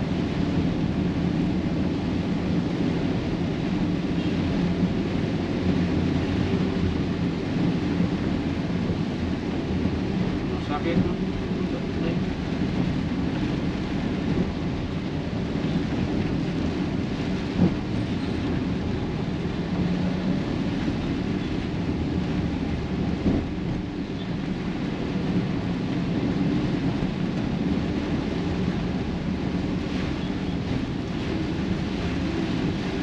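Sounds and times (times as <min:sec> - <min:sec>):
rain: 0:00.0 - 0:33.0
road travel rumble: 0:00.0 - 0:33.0
wind buffeting microphone: 0:00.0 - 0:33.0.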